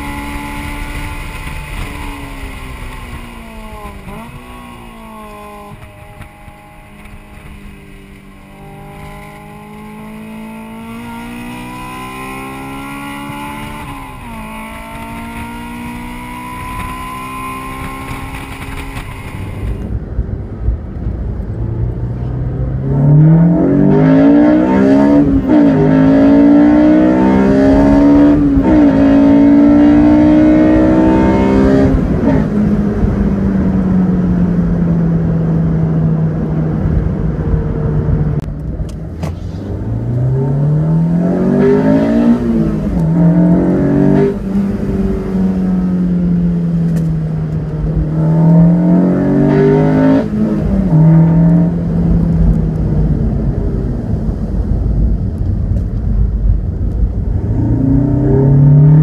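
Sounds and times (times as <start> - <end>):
car engine revving through gears: 0.0 - 20.0, 21.4 - 56.0, 56.7 - 59.0.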